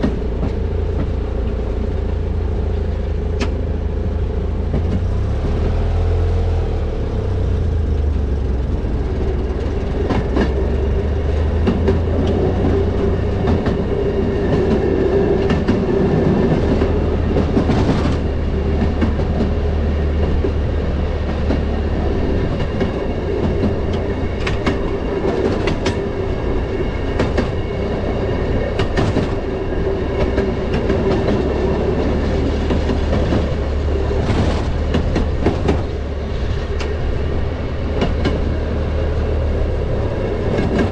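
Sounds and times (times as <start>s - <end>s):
rail motorcar engine drone: 0.0s - 40.9s
wheels clicking over rail joints: 7.2s - 40.9s.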